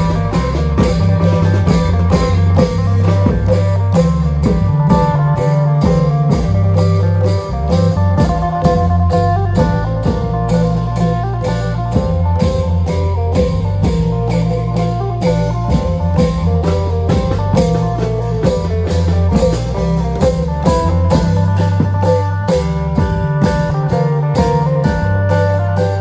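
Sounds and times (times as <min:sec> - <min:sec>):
held bass line: 0:00.0 - 0:26.0
plucked string melody: 0:00.0 - 0:26.0.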